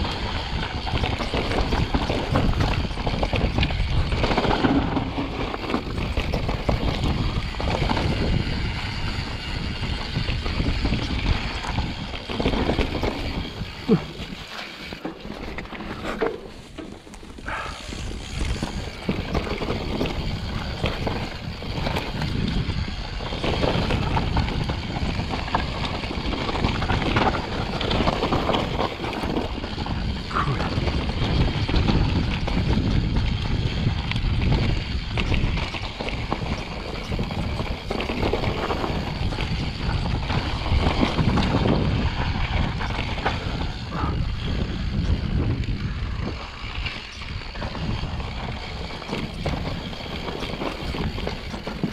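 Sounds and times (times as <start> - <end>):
bike rattling over bumps: 0.0 - 51.9
bike tyres rolling over rocks: 0.0 - 51.9
wind noise on microphone: 0.0 - 51.9.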